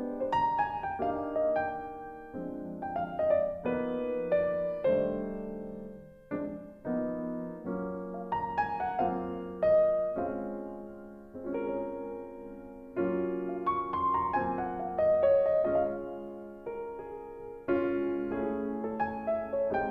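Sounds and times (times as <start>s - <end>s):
soft piano music: 0.0s - 19.9s.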